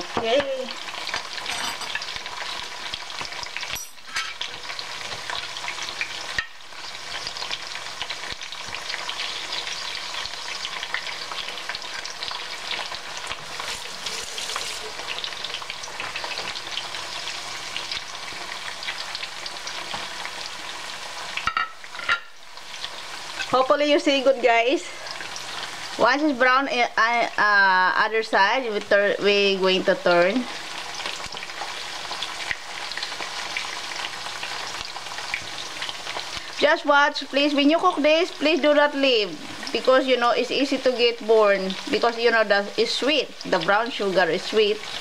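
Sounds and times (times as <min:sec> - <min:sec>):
oil sizzling and crackling in a pan: 0:00.0 - 0:45.0.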